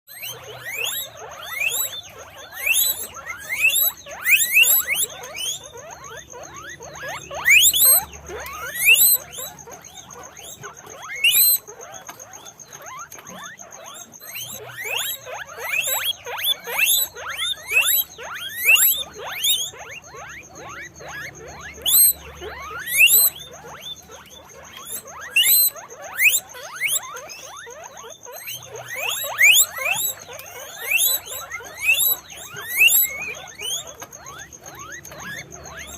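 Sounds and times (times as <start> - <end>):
guinea pigs squeaking: 0.1 - 35.9.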